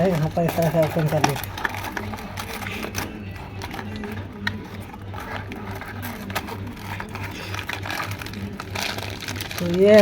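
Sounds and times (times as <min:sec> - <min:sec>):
packaging handled: 0:00.0 - 0:10.0
tape being peeled: 0:00.0 - 0:10.0.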